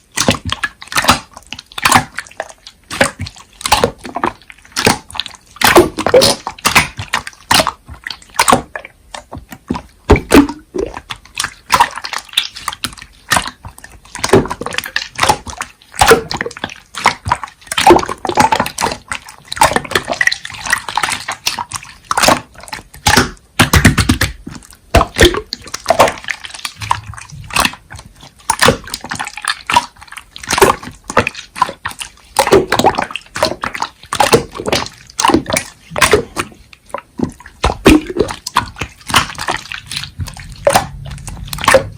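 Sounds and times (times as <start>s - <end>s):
slime squished by hand: 0.0s - 41.9s.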